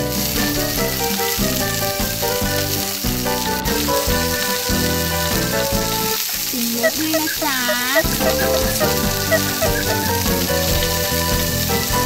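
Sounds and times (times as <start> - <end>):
background music with bass: 0.0 - 6.2, 8.0 - 12.0
frying sizzle: 0.0 - 12.0.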